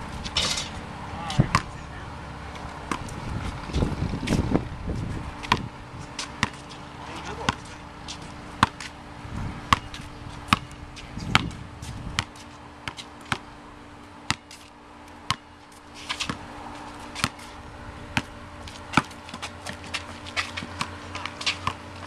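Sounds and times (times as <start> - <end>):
basketball bouncing on concrete: 0.2 - 1.8, 2.5 - 9.0, 9.6 - 13.5, 14.2 - 22.0.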